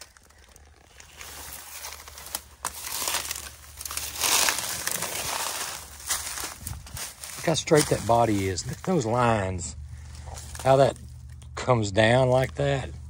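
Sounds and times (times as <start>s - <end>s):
footsteps crunching dry leaves: 0.0s - 11.5s.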